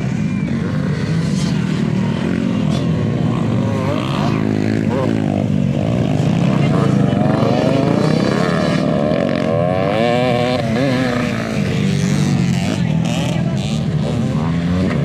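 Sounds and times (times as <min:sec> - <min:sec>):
dirt bikes revving past: 0:00.0 - 0:15.0
drone of bike engines: 0:00.0 - 0:15.0.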